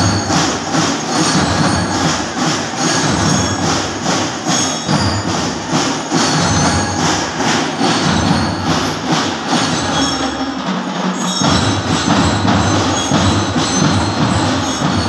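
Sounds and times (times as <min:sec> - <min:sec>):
bell lyre notes: 0:00.0 - 0:15.0
marching drums: 0:00.0 - 0:15.0.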